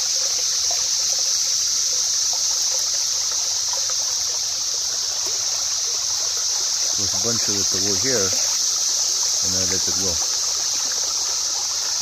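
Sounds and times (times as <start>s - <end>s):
cicada chorus drone: 0.0s - 12.0s
water trickling in a stream: 0.0s - 12.0s.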